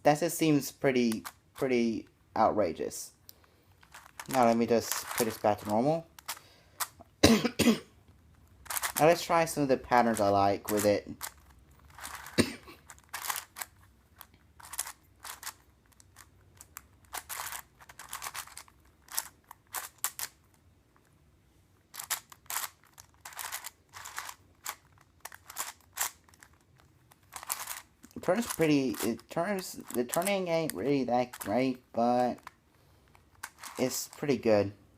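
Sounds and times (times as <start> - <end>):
plastic puzzle cube clicking: 1.1 - 1.4, 3.2 - 7.0, 8.4 - 20.6, 21.9 - 34.3.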